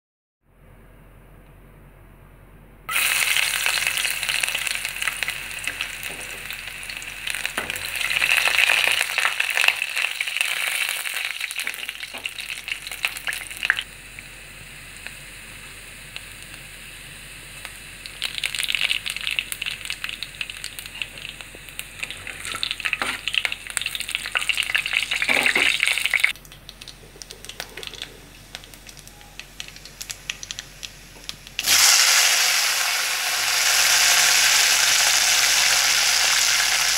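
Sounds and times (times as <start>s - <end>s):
garlic sizzling in hot oil: 2.9s - 36.9s.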